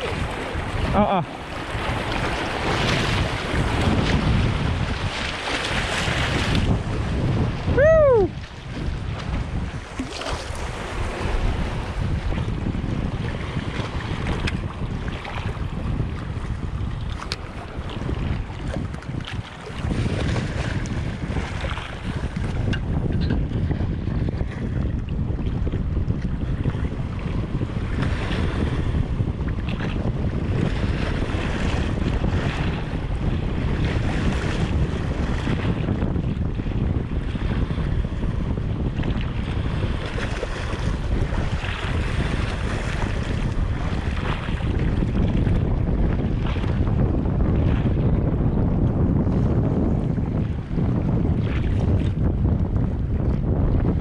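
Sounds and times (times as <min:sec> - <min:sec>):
sea waves washing against rocks: 0:00.0 - 0:24.9, 0:25.6 - 0:52.0
wind buffeting microphone: 0:00.0 - 0:54.0.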